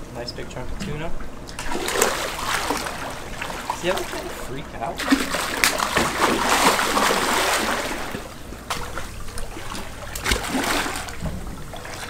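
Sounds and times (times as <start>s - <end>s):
water splashing from thrashing fish: 1.5s - 12.0s.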